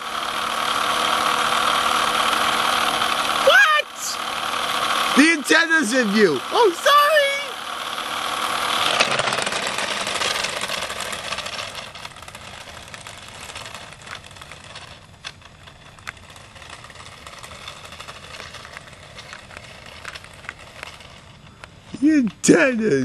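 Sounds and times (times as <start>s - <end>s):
rc car electric motor whirring: 0.0s - 22.4s.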